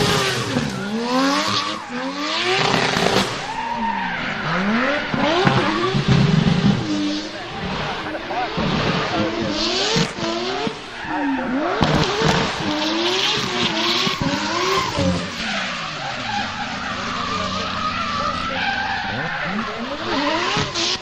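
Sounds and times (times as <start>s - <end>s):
car engine revving: 0.0s - 21.0s
tyres skidding and squealing: 0.0s - 21.0s.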